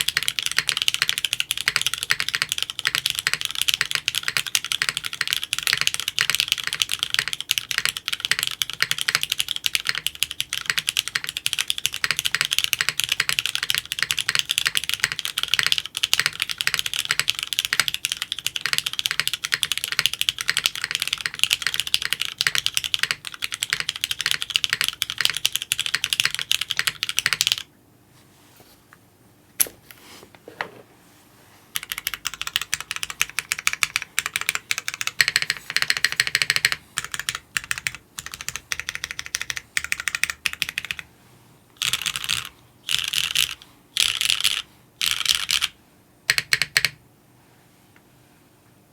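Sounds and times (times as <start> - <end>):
typing on mechanical keyboard: 0.0 - 27.7, 31.8 - 41.1, 41.8 - 47.0.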